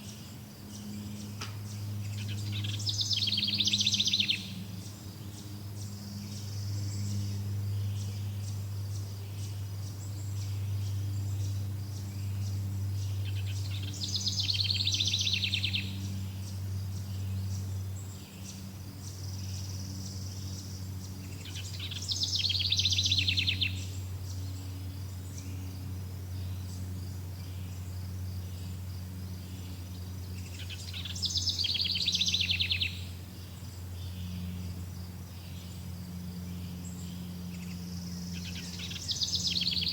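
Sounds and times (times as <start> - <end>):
insects chirring: 0.0 - 39.9
low steady hum: 0.0 - 39.9
songbird trilling: 0.8 - 8.6, 9.2 - 39.9.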